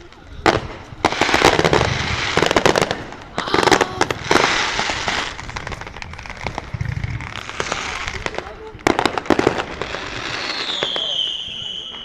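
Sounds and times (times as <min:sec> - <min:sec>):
fireworks crackling pops: 0:00.0 - 0:12.0
fireworks hissing: 0:00.0 - 0:12.0.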